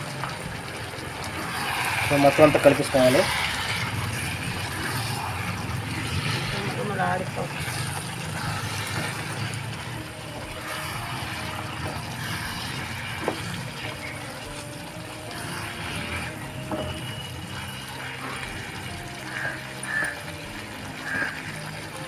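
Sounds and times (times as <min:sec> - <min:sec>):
curry sizzling in a pan: 0:00.0 - 0:22.0
spatula stirring: 0:00.1 - 0:22.0.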